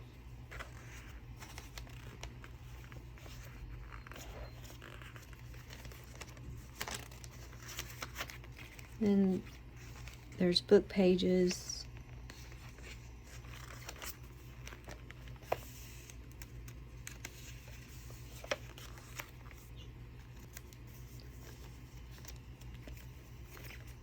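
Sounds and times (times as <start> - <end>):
paper pages rustling: 0.4 - 10.4, 11.0 - 24.0.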